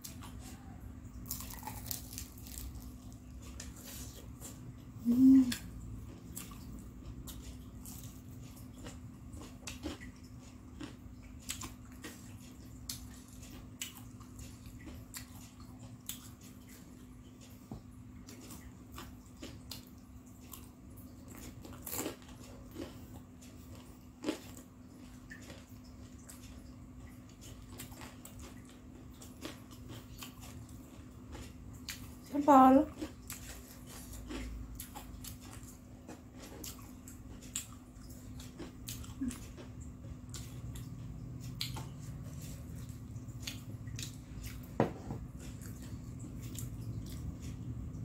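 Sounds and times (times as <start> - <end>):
crunching and wet chewing: 0.0 - 48.0
steady low hum: 0.0 - 48.0.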